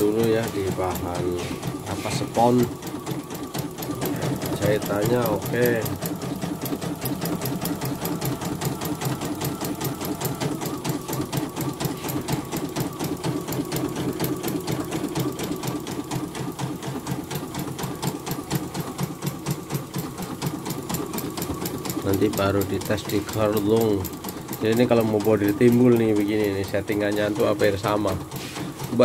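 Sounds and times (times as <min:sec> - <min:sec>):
embroidery machine stitching: 0:00.0 - 0:29.0.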